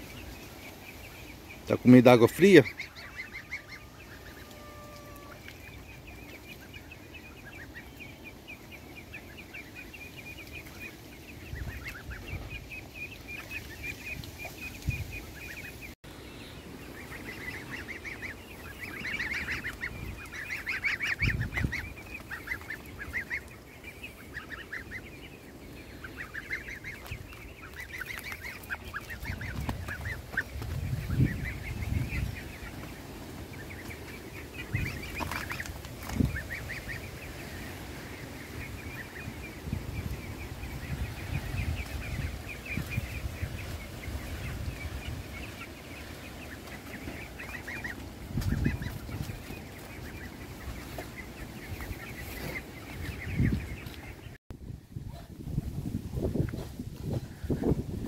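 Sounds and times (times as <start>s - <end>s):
goslings peeping: 0.0s - 54.4s.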